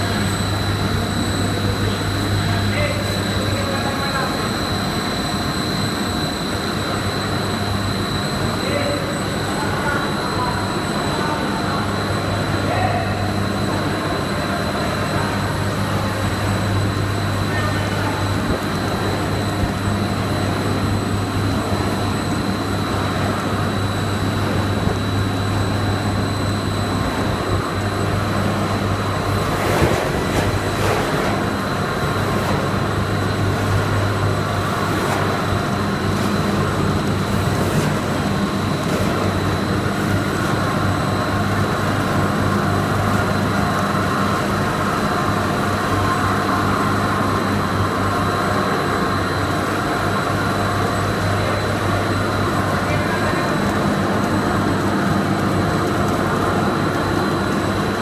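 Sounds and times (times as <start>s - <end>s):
factory machinery humming and whining: 0.0s - 58.0s.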